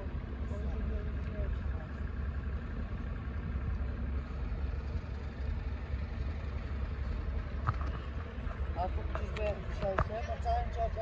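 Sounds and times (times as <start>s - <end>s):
train engine rumble: 0.0s - 11.0s.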